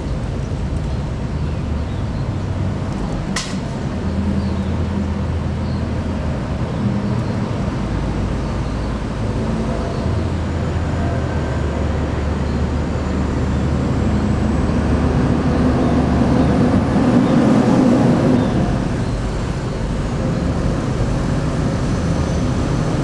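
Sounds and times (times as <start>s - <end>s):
diesel bus engine idling: 0.0s - 23.0s.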